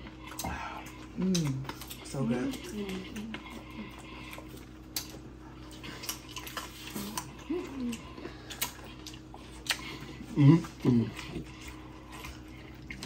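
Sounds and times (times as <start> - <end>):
crunchy biting and chewing: 0.0 - 13.0.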